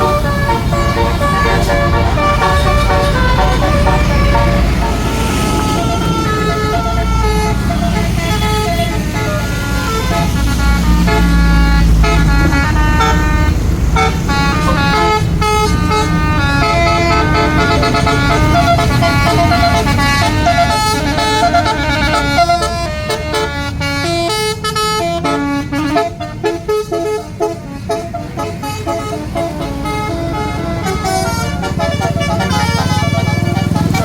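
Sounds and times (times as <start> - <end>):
bus engine rumble: 0.0 - 34.0
musical bus horn melody: 0.0 - 34.0.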